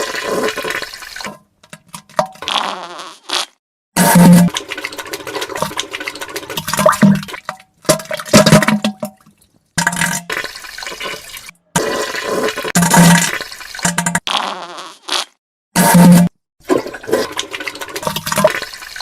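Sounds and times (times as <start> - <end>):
wet toilet sounds: 0.0 - 3.2, 4.0 - 14.9, 15.8 - 19.0.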